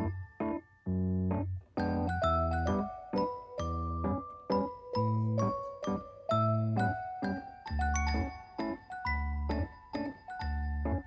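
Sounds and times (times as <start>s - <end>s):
light keyboard tune with bass: 0.0s - 11.0s.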